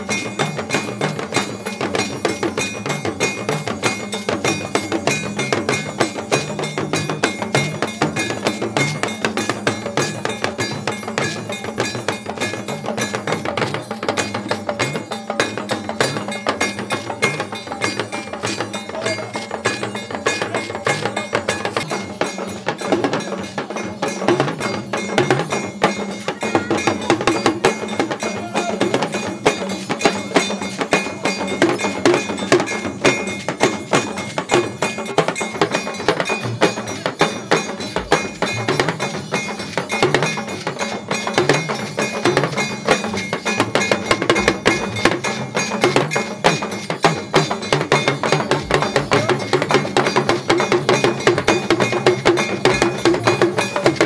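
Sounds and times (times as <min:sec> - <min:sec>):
drum ensemble playing fast rhythm: 0:00.0 - 0:54.0.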